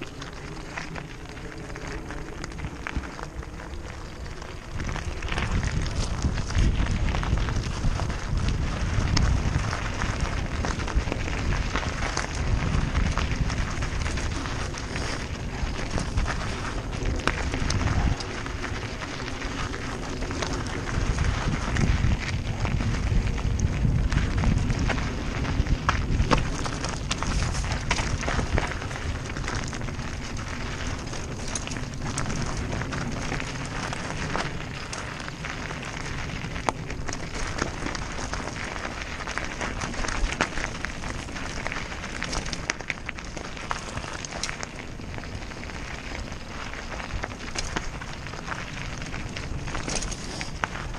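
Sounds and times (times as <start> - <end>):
stones clicking and bike rattling: 0.0 - 50.9
tyres crunching over gravel: 0.0 - 50.9
wind rumble on microphone: 0.0 - 50.9.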